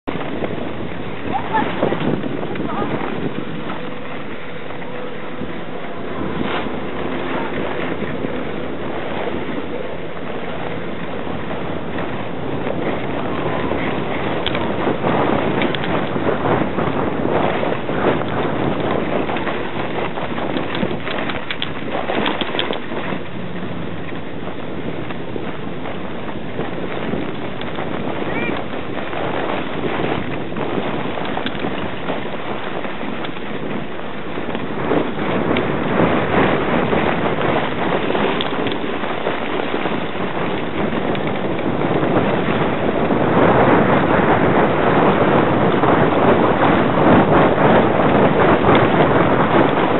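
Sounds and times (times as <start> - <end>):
sled runners rushing on snow: 0.0 - 49.9
wind blowing across microphone: 0.0 - 49.9.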